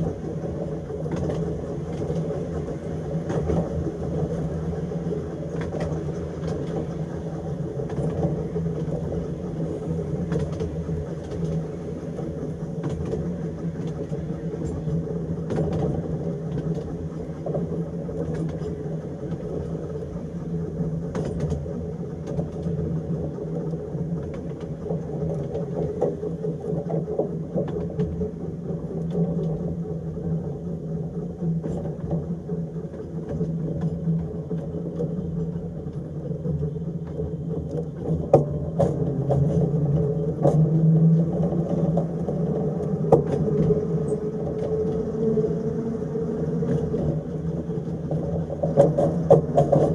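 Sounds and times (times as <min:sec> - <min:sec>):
wheels clicking over rail joints: 0:00.0 - 0:04.4, 0:05.0 - 0:20.0, 0:20.6 - 0:49.9
tram motors humming and rumbling: 0:00.0 - 0:49.9.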